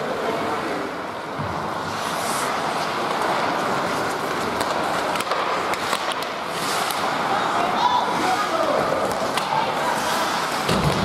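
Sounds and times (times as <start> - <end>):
skate scrape: 0.2 - 11.0
skate blades on ice: 1.4 - 11.0.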